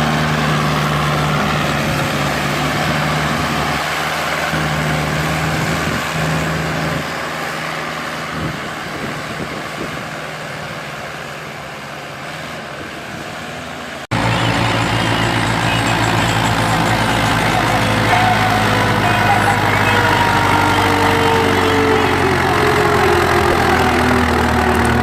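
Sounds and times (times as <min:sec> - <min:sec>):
diesel tractor engine under load: 0:00.0 - 0:25.0
tractor engine running low: 0:00.0 - 0:25.0.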